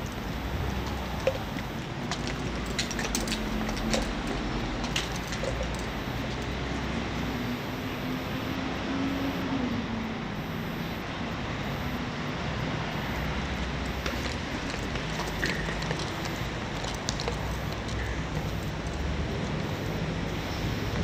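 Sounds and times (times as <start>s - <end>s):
traffic hum: 0.0s - 21.0s.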